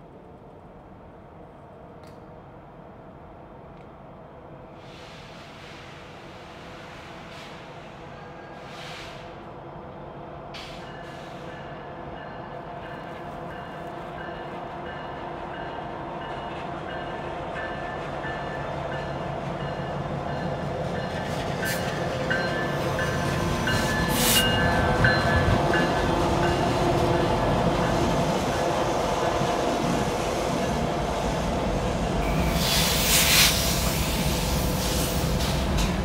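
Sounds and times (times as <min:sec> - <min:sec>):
diesel locomotives approaching: 0:00.0 - 0:36.0.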